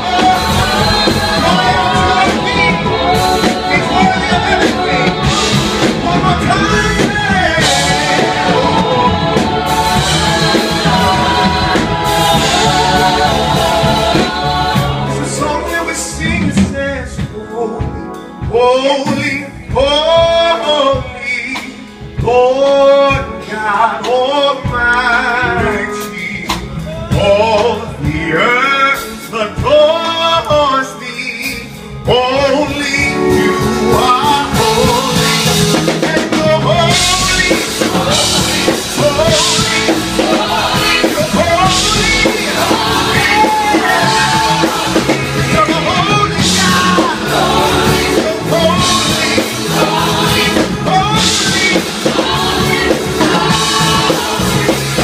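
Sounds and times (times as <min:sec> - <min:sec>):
drum kit: 0:00.0 - 0:30.8, 0:31.4 - 0:55.0
gospel choir singing: 0:00.0 - 0:55.0
guitar: 0:00.0 - 0:55.0
keyboard: 0:00.0 - 0:55.0
man singing lead: 0:00.0 - 0:55.0.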